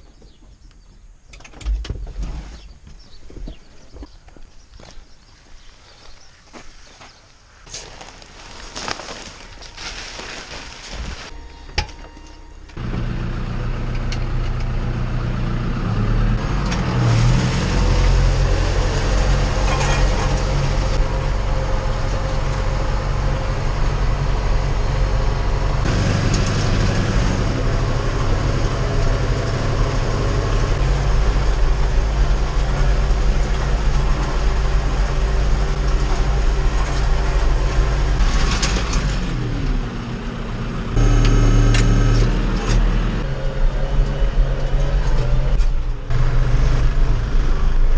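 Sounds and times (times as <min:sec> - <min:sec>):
tractor diesel engine running: 0:07.8 - 0:47.9.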